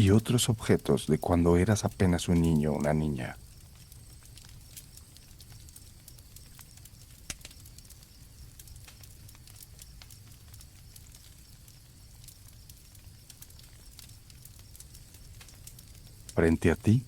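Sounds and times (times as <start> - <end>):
campfire crackling and popping: 0.0 - 17.0
crickets trilling: 0.0 - 17.0.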